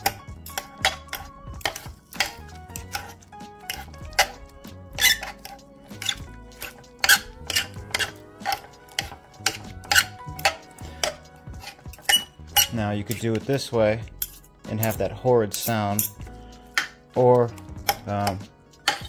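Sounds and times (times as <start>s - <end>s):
metal forks scraping a baking dish: 0.0s - 17.0s, 17.8s - 19.0s.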